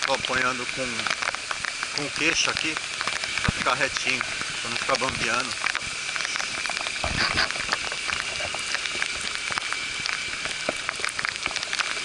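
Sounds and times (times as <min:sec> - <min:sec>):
heavy rain on a plastic case: 0:00.0 - 0:12.0.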